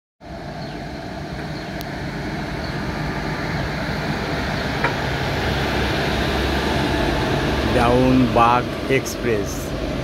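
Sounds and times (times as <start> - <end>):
train wheels rumbling on rails: 0.3 - 10.0.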